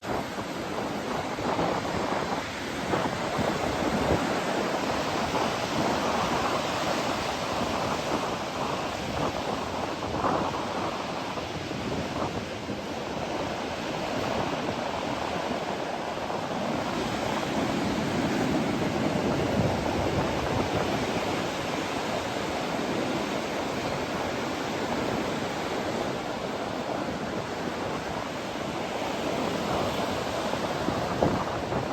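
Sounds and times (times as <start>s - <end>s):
ocean surf washing on beach: 0.0s - 31.9s
wind buffeting microphone: 0.0s - 31.9s.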